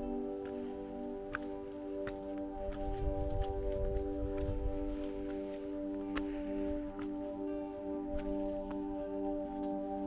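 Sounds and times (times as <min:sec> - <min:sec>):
music of long held tones: 0:00.0 - 0:10.0.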